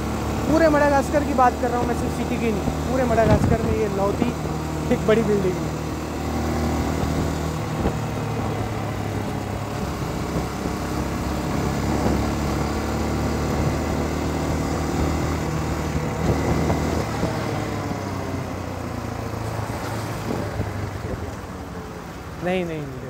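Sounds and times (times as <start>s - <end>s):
dirt bike engine running: 0.0s - 21.2s.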